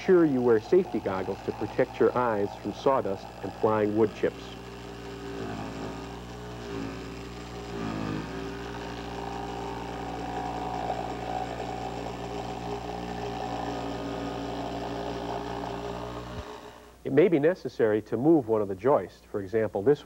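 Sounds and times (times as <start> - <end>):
jigsaw cutting plywood: 0.0 - 17.0.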